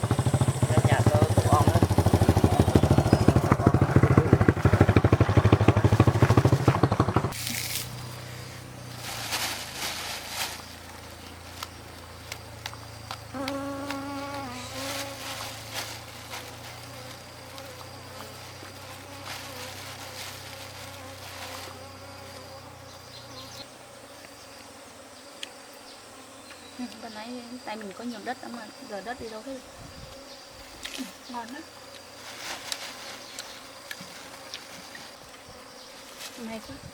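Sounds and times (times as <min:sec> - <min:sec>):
bees buzzing: 0:00.0 - 0:36.9.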